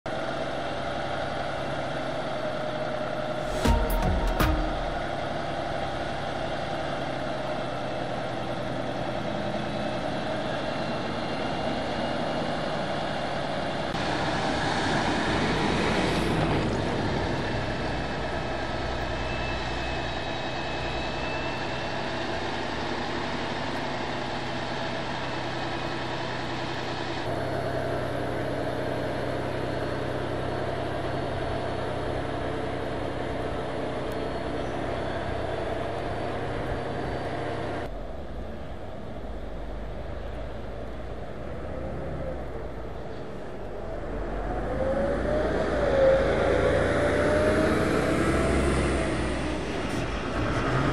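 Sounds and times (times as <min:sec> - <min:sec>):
heavy truck engines droning: 0:00.1 - 0:50.9.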